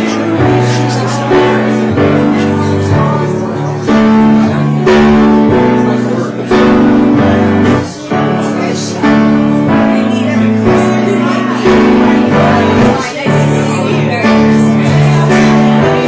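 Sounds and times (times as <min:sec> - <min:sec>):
loud distorted live music: 0:00.0 - 0:16.0.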